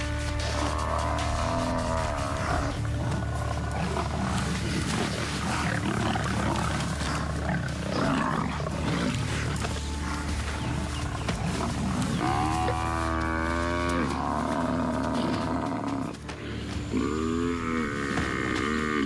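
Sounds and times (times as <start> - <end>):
background music with low drone: 0.0 - 19.0
lions growling: 0.0 - 19.0.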